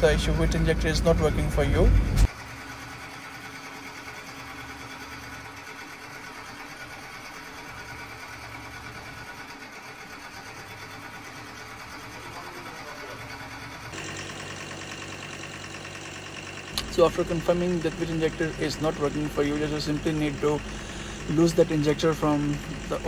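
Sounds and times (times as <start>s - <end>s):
diesel engine idling with misfire: 0.0s - 23.0s.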